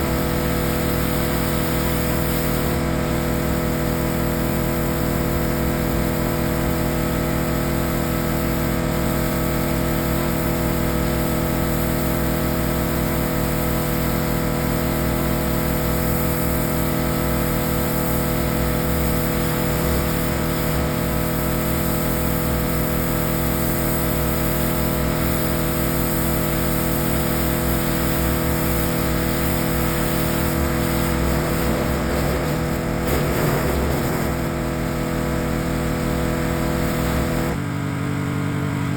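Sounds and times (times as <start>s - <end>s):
pressure washer engine running: 0.0s - 38.1s.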